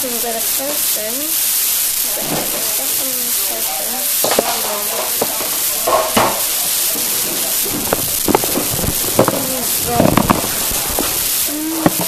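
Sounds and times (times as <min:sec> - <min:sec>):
plastic packaging crackling: 0:00.0 - 0:12.0
steady hiss: 0:00.0 - 0:12.0.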